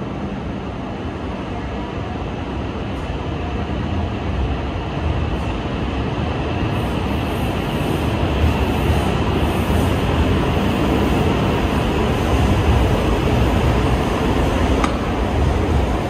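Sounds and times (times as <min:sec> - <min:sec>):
train wheels rumbling: 0:01.0 - 0:16.0.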